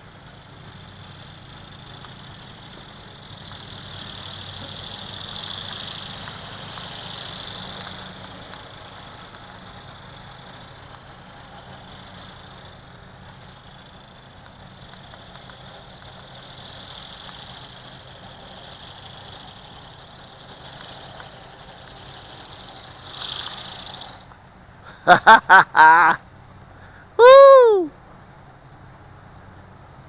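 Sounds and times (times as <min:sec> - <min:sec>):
high-pitched electric motor whine: 0:00.0 - 0:24.5.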